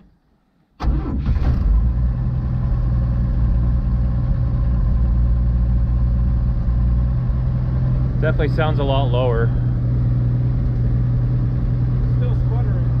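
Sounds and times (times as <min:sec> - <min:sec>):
truck engine starting and idling: 0:00.7 - 0:13.0.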